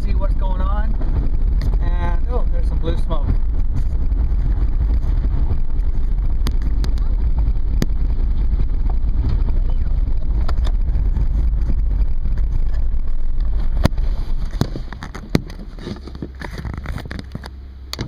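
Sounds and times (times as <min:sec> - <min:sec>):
vehicle rumbling on gravel: 0:00.0 - 0:18.0.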